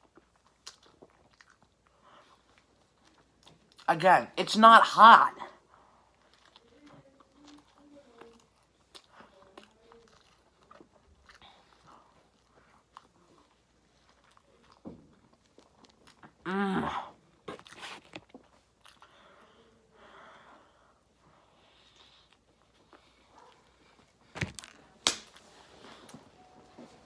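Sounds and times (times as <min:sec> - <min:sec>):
person chewing food: 0:00.0 - 0:03.9, 0:05.6 - 0:19.8, 0:20.4 - 0:26.6.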